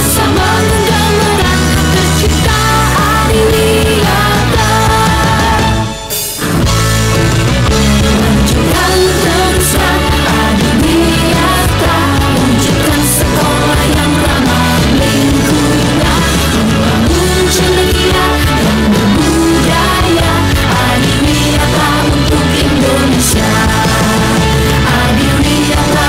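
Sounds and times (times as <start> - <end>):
crowd singing along: 0.0 - 6.3, 7.8 - 26.0
amplified band music: 0.0 - 26.0.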